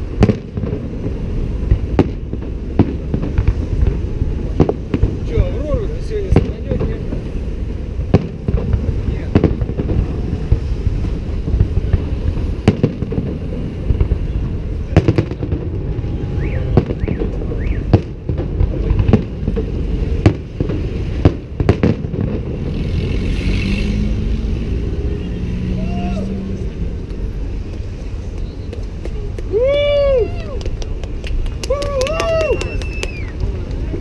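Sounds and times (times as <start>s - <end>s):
low rumble: 0.0s - 28.4s
fireworks bangs: 0.0s - 34.0s.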